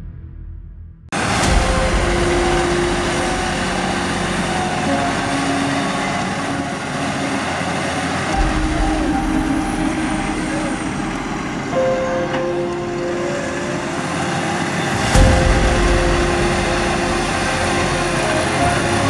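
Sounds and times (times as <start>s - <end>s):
deep engine rumble: 0.0s - 19.0s
steady engine whine: 1.2s - 19.0s
tractor engine working under load: 1.2s - 19.0s.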